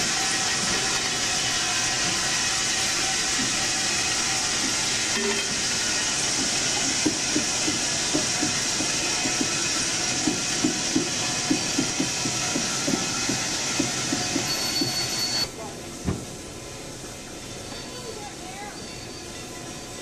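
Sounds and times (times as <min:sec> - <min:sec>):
freight car wheels rolling on rail: 0:00.0 - 0:20.0.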